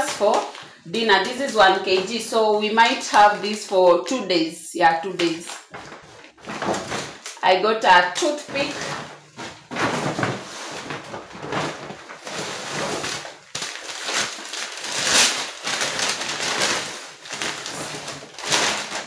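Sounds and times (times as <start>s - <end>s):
plastic packaging rustling: 0.0s - 4.1s, 5.0s - 19.0s.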